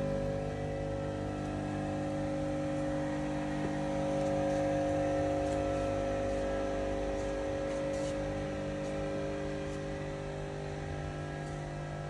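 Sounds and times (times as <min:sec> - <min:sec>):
machine mechanical hum: 0:00.0 - 0:12.0.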